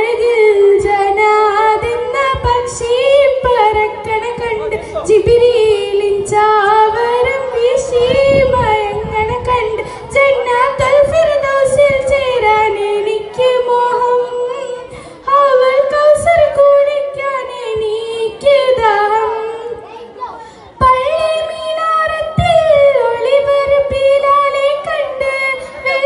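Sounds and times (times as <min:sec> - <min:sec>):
girl singing into a microphone: 0:00.0 - 0:26.0.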